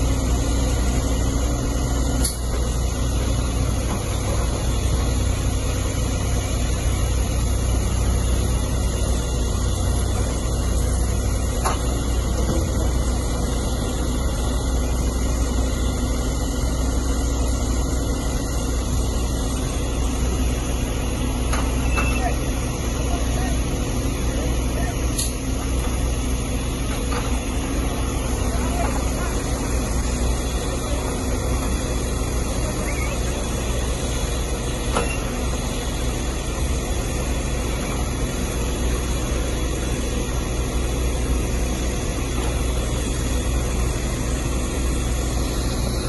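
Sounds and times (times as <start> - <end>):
diesel engines droning: 0.0 - 46.0.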